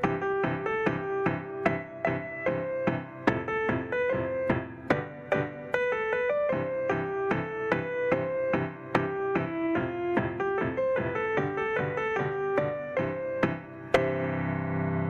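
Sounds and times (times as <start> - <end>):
electronic keyboard piano melody: 0.0 - 15.0.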